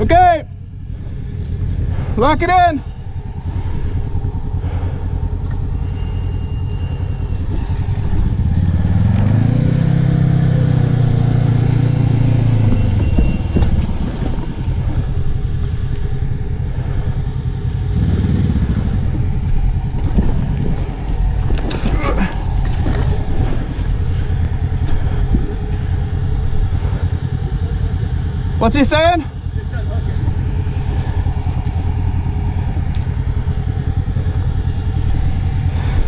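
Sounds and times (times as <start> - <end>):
engine revving under load: 0.0 - 36.0.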